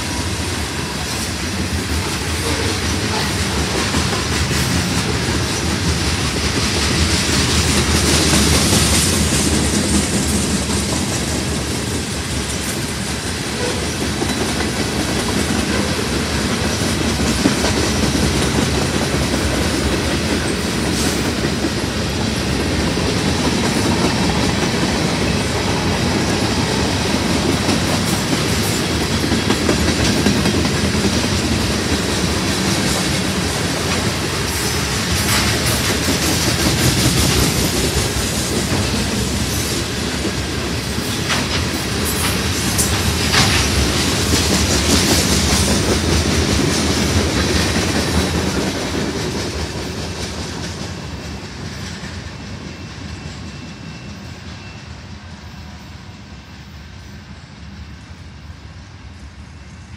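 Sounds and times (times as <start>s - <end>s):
freight train wheels clacking: 0.0s - 56.1s.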